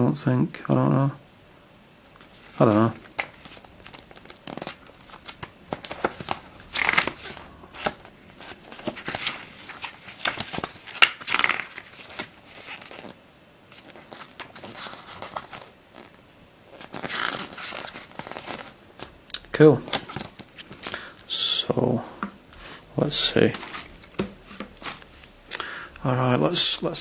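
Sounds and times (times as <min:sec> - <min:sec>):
paper and plastic rustling: 0:02.0 - 0:27.0.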